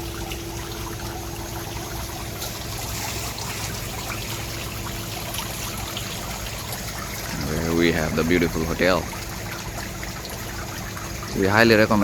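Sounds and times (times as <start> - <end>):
faint steady hum: 0.0 - 12.0
water trickling and splashing: 0.0 - 12.0.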